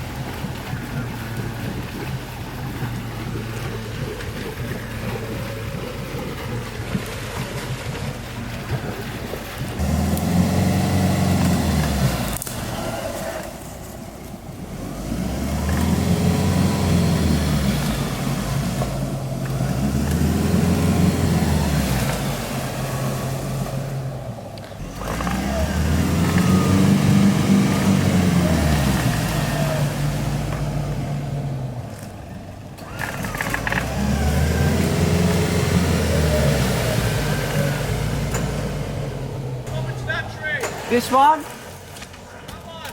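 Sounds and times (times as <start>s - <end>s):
vehicle engine revving: 0.0s - 42.3s.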